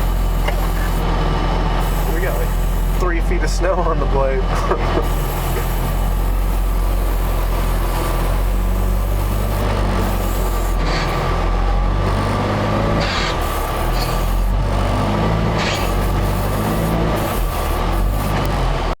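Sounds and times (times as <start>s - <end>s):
drivetrain whine: 0.0s - 19.0s
snowcat engine running under load: 0.0s - 19.0s.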